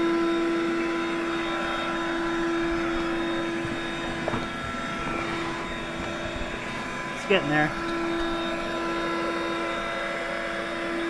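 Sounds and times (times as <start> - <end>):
air pump humming: 0.0 - 11.0.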